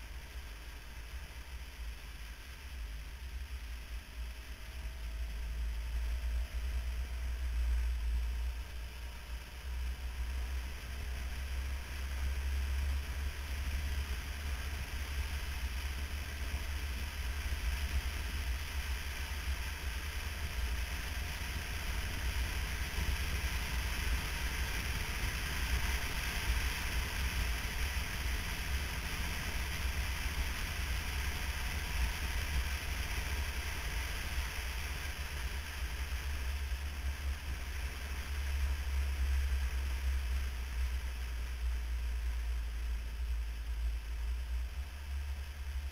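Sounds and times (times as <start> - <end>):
motorcycle engine and road rumble: 0.0 - 45.9.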